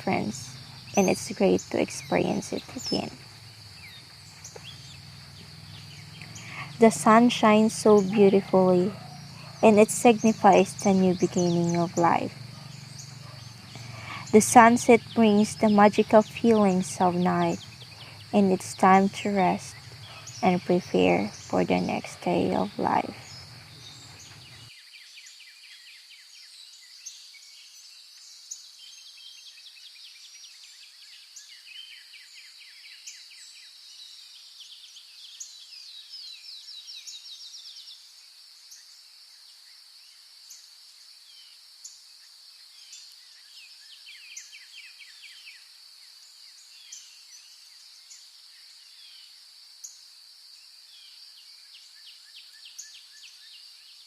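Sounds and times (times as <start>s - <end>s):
high insect drone: 0.0s - 54.0s
rapid pulsing insect trills: 0.0s - 54.0s.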